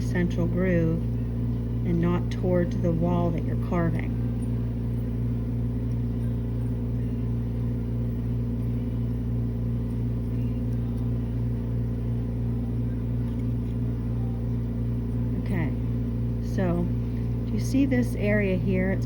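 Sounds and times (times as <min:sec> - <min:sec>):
electric motor humming: 0:00.0 - 0:19.0.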